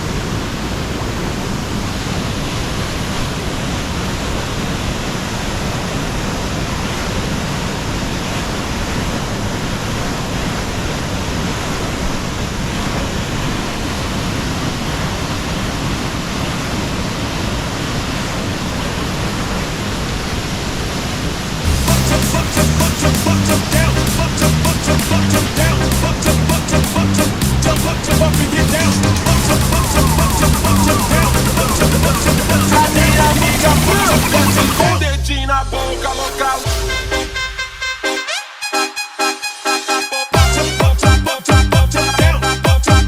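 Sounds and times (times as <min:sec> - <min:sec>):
falling water rushing: 0:00.0 - 0:40.8.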